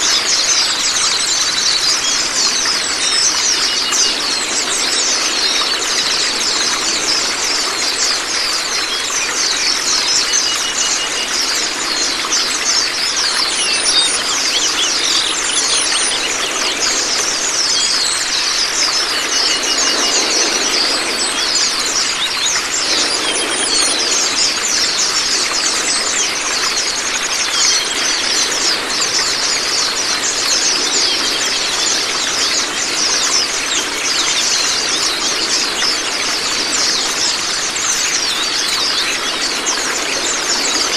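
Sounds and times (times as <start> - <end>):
running water rushing: 0.0 - 40.9
songbirds twittering: 0.0 - 40.9.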